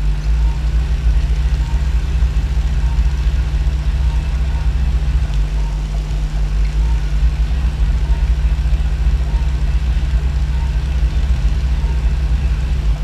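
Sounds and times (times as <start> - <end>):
equipment humming: 0.0 - 13.0.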